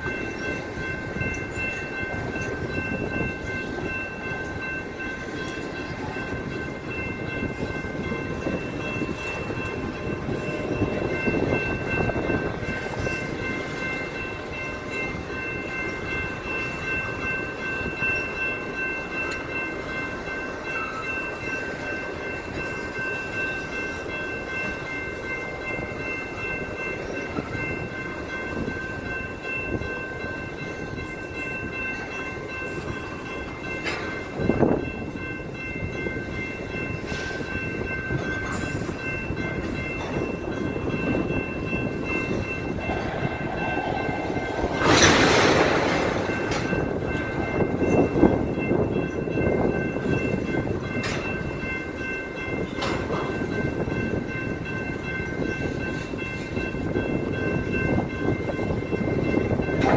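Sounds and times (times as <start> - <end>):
steady high-pitched tones: 0.0 - 59.9
train wheels clattering on rail: 0.0 - 59.9.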